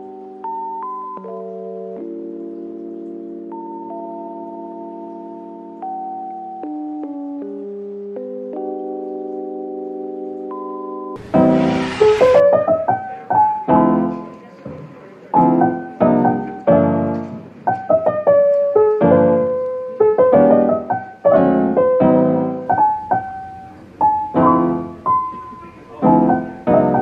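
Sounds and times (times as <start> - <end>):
soft piano music: 0.0 - 27.0.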